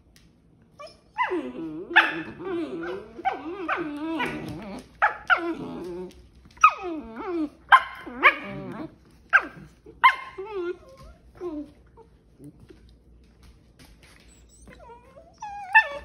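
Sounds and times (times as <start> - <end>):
puppies barking and growling: 0.8 - 12.4, 14.5 - 16.0.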